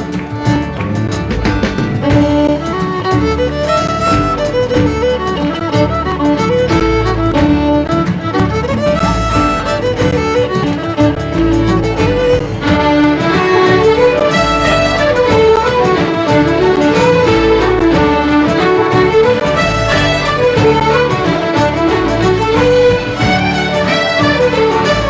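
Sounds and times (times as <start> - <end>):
fiddle melody: 0.0 - 25.0
live folk band playing: 0.0 - 25.0.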